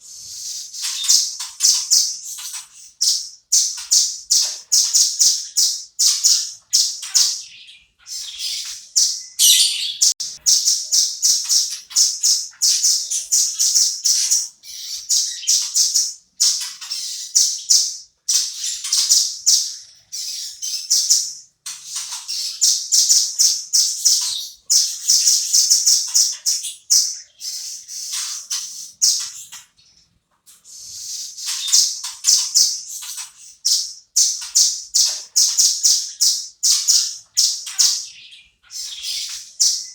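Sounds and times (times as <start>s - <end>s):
nuthatch calling in sharp chips: 0.1s - 29.6s, 30.7s - 39.9s.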